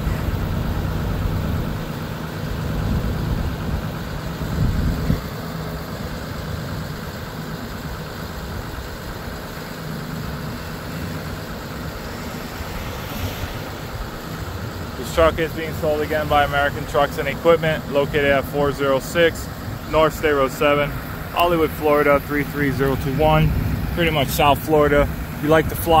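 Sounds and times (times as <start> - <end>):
diesel engine at raised idle: 0.0 - 26.0.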